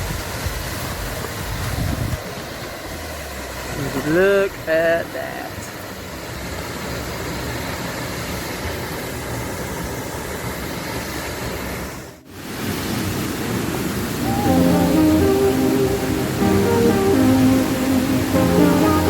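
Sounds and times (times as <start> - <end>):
waterfall pouring into pool: 0.0 - 19.0.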